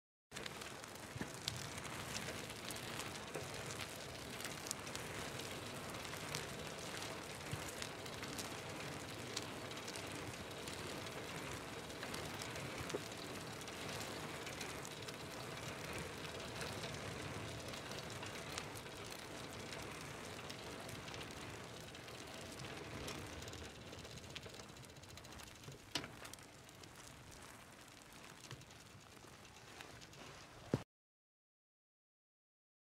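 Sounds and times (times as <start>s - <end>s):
bicycle clicks and rattles: 0.3s - 30.8s
bicycle tyres rolling on asphalt: 0.3s - 30.8s.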